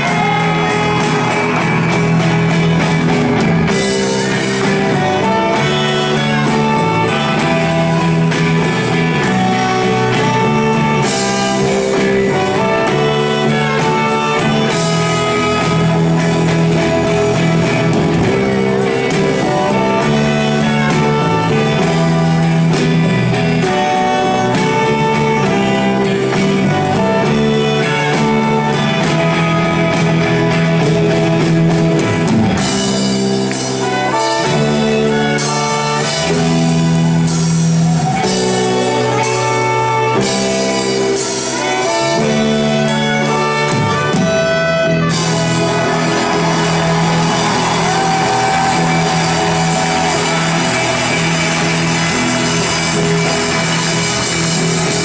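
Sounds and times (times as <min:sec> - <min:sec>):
live pop band with horns: 0:00.0 - 0:55.0.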